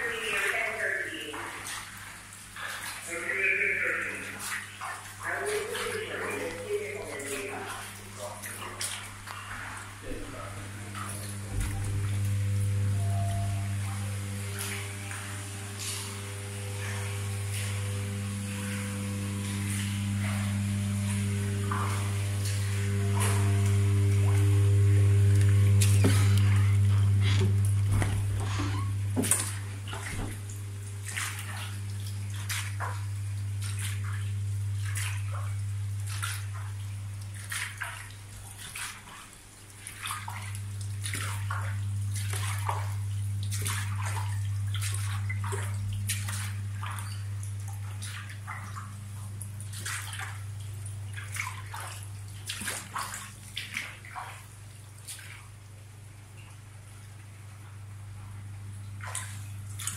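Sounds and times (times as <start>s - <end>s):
footsteps splashing through water: 0.0s - 55.7s, 58.8s - 59.9s
steady low hum: 0.0s - 59.9s.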